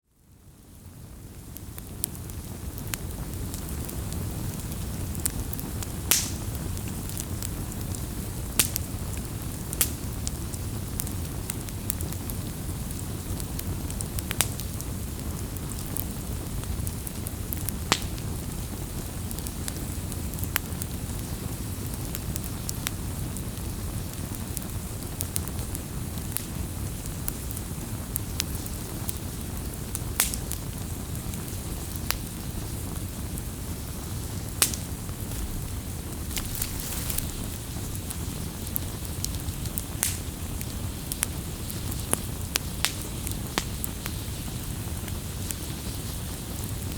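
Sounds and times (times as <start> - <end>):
wood fire crackling: 0.3 - 46.9.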